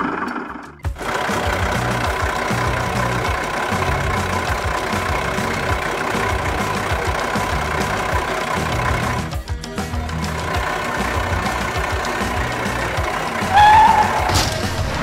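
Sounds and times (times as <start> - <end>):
truck engine idling: 0.1 - 15.0.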